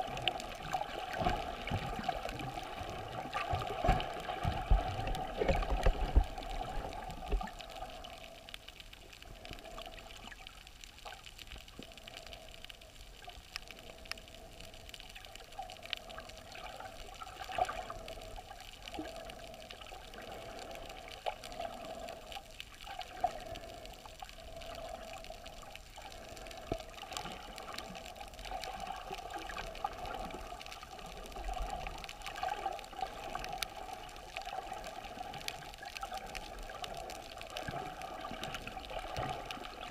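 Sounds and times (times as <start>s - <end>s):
muffled underwater water sloshing: 0.0s - 39.9s
small scattered clicks: 0.0s - 39.9s.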